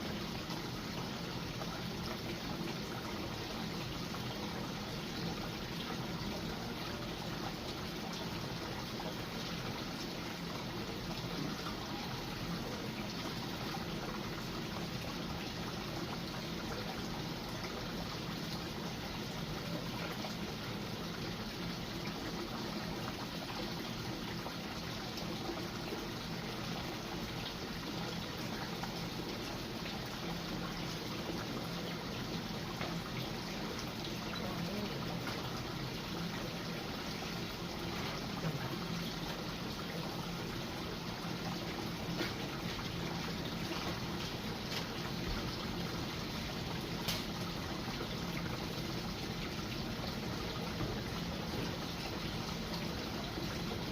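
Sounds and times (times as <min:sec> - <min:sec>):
running water trickling: 0:00.0 - 0:53.9.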